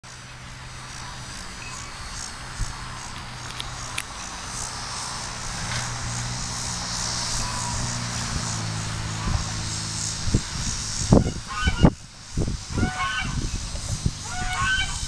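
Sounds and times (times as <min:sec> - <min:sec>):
low engine drone: 0:00.0 - 0:15.0
insects chirring: 0:00.1 - 0:15.0.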